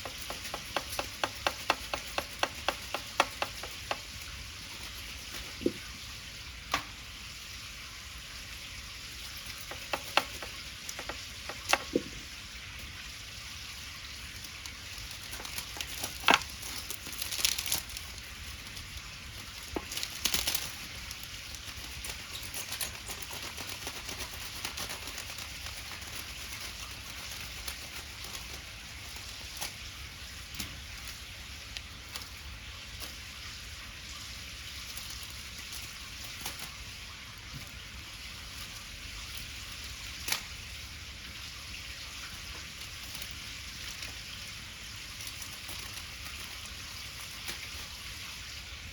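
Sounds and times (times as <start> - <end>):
bonfire crackling and hissing: 0.0 - 48.9.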